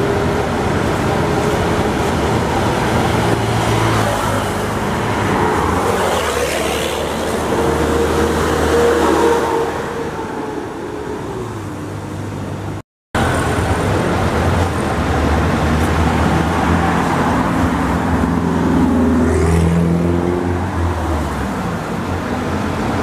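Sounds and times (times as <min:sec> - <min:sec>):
diesel bus passing: 0:00.0 - 0:23.0
road traffic: 0:00.0 - 0:23.0.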